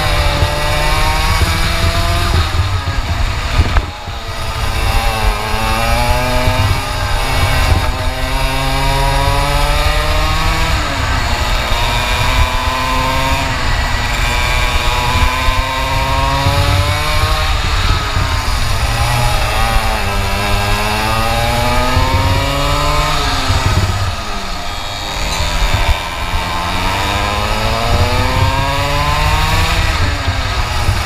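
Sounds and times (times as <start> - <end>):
kart engine revving: 0.0 - 31.0.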